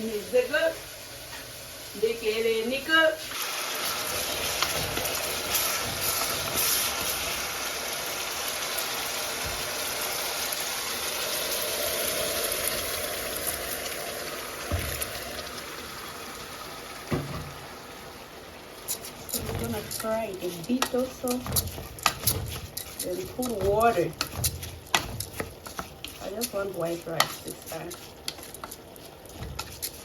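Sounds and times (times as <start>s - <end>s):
tap water running: 3.2s - 30.0s.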